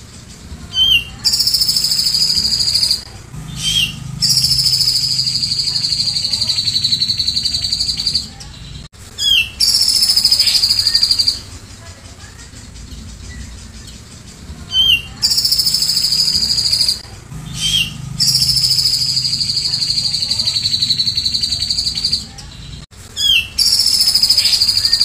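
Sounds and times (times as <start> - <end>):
bird singing rattling trills: 0.0 - 25.0.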